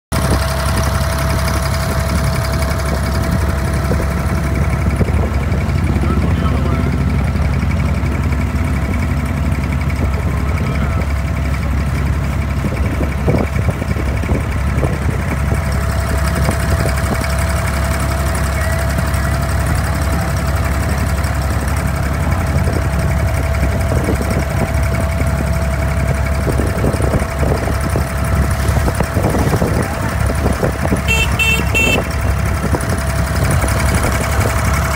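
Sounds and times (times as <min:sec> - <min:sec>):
boat diesel engine droning: 0:00.1 - 0:34.9.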